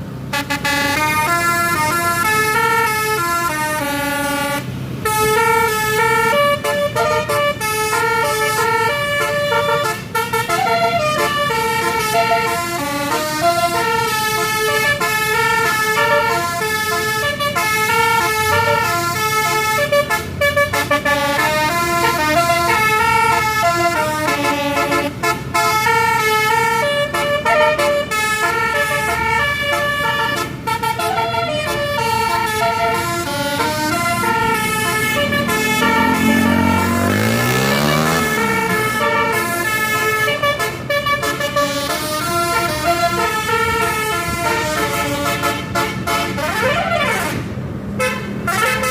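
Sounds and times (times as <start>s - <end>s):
multi-tone air horn melody: 0.3s - 48.9s.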